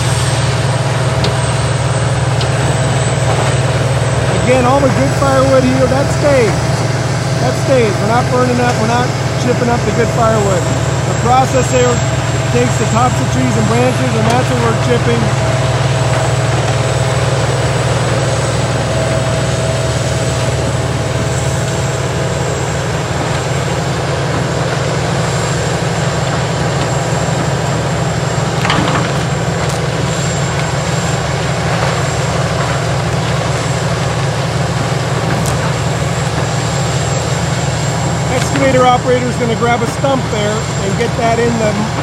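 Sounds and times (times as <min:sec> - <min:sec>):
heavy diesel grinder droning: 0:00.0 - 0:42.0.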